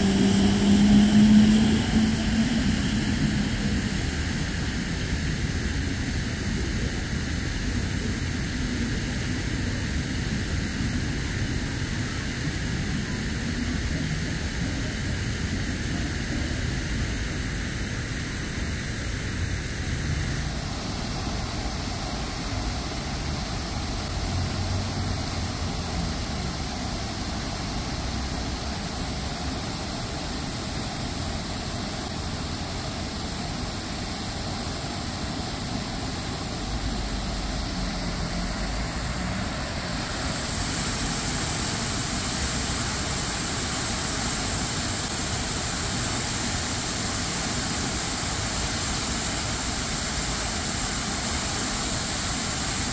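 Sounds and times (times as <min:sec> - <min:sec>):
city traffic hum: 0:00.0 - 0:52.9
fountain water splashing: 0:00.0 - 0:52.9.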